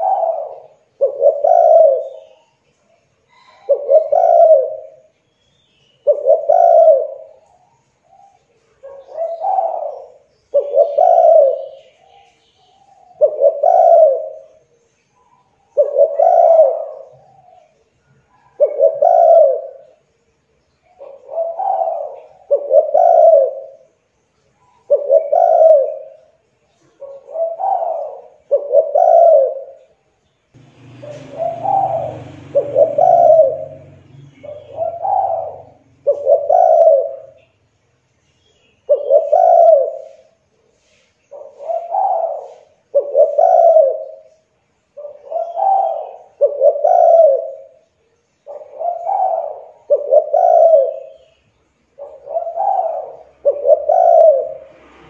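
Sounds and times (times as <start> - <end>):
dove cooing: 0.0 - 2.6, 3.3 - 5.2, 6.0 - 14.7, 15.3 - 20.0, 20.9 - 24.0, 24.7 - 30.0, 30.6 - 37.5, 38.8 - 54.8.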